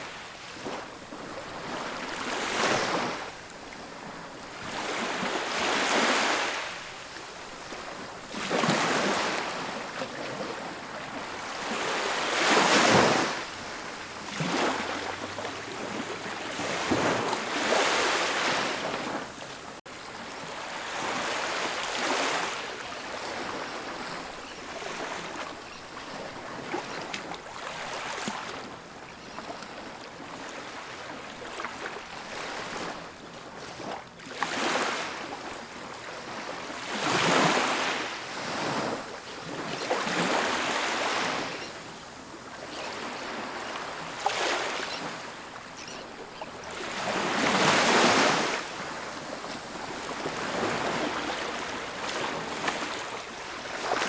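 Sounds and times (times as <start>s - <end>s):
waves washing up a sandy beach: 0.0s - 54.0s.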